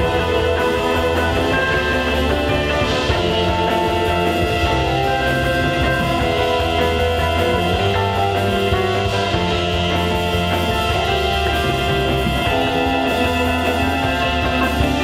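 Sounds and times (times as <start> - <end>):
rock band with violin: 0.0 - 15.0.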